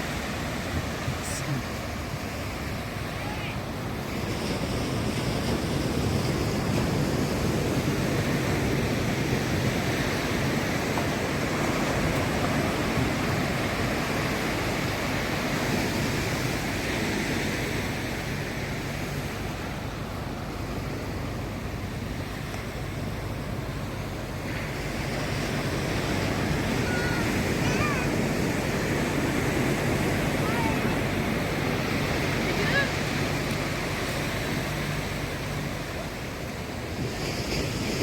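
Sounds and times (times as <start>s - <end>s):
ocean surf breaking: 0.0s - 38.0s.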